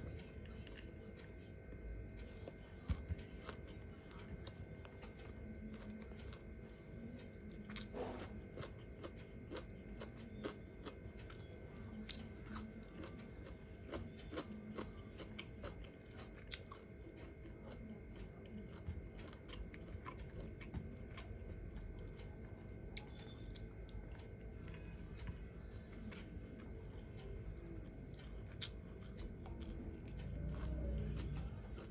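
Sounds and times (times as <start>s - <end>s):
person chewing: 0.0s - 31.9s.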